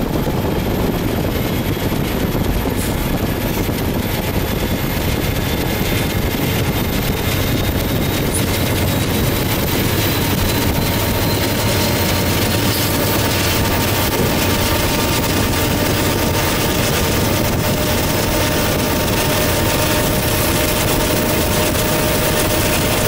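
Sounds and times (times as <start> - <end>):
diesel locomotive engine rumble: 0.0 - 23.0
train running noise: 0.0 - 23.0.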